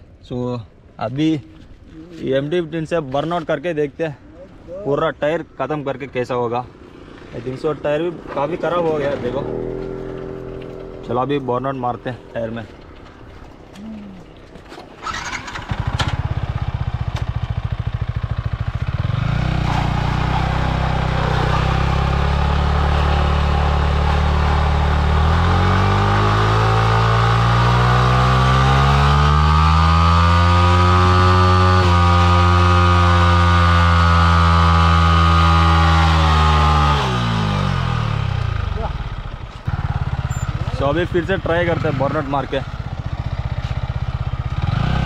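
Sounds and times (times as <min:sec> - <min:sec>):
motorcycle engine idling and revving: 0:04.3 - 0:45.0.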